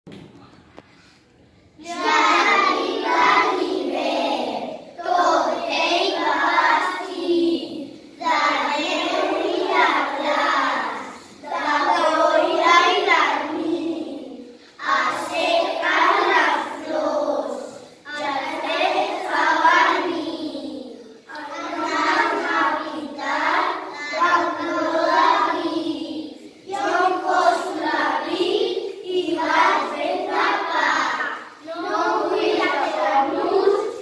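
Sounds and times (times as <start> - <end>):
children chanting in unison: 1.8 - 34.0.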